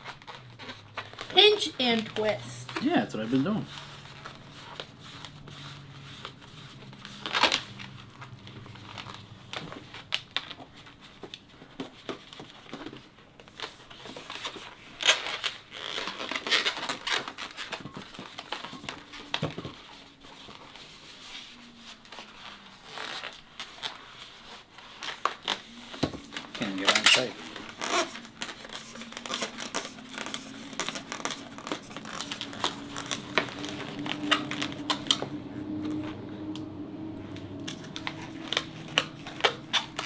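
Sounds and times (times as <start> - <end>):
balloons rubbing and crinkling: 0.0 - 40.0.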